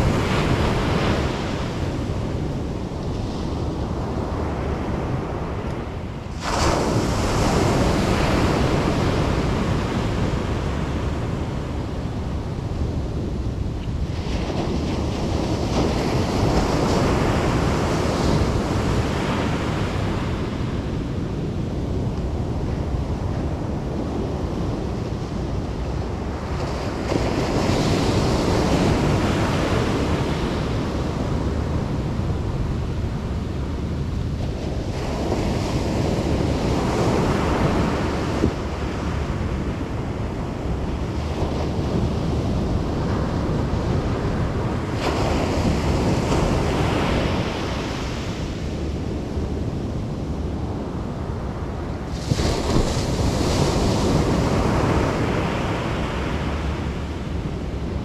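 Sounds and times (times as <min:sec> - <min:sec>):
ocean waves breaking: 0:00.0 - 0:58.0
wind rumble on microphone: 0:00.0 - 0:58.0.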